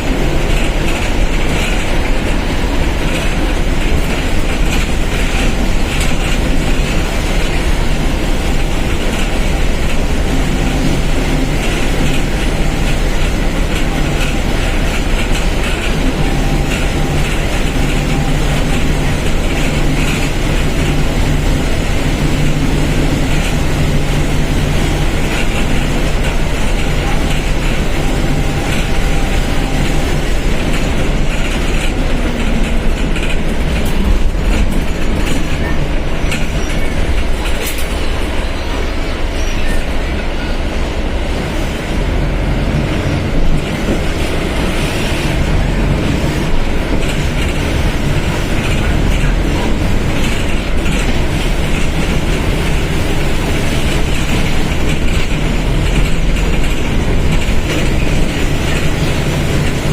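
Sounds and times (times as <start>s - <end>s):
bus engine drone: 0.0s - 59.9s
rolling rumble and rattle: 0.0s - 59.9s.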